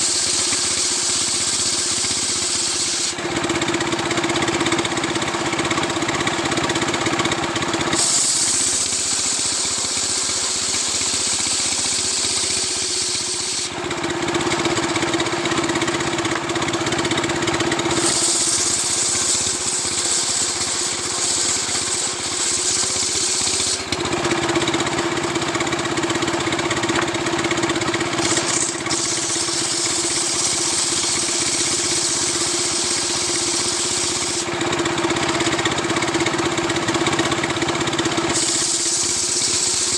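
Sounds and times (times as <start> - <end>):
chainsaw cutting wood: 0.0 - 39.9
chainsaw running: 0.0 - 39.9.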